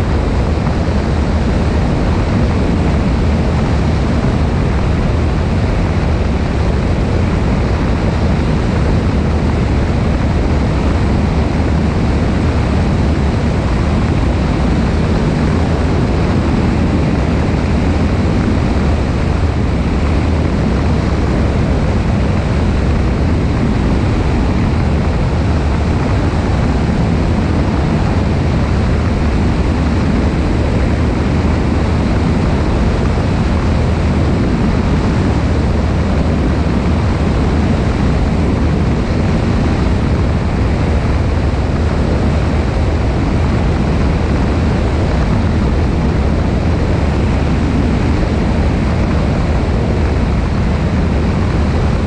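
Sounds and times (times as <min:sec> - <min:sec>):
plane engine and propeller drone: 0:00.0 - 0:52.0
rushing airflow: 0:00.0 - 0:52.0.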